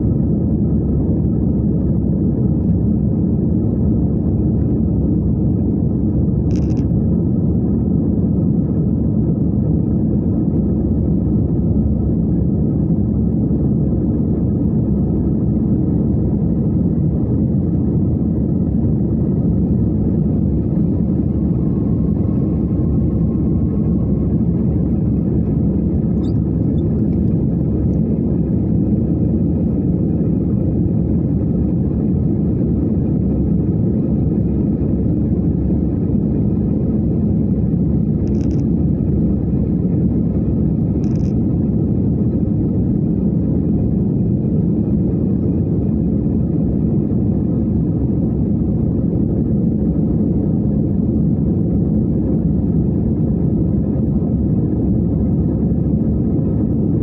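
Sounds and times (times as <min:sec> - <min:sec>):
jet engine rumble in cabin: 0:00.0 - 0:57.0.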